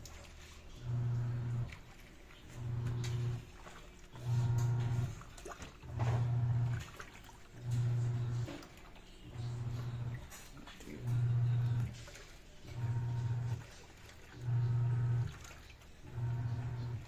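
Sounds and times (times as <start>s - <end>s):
washing machine motor churning: 0.0s - 17.0s.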